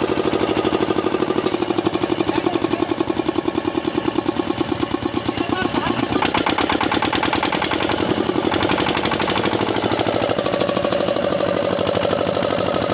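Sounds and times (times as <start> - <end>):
diesel engine knocking: 0.0 - 12.9.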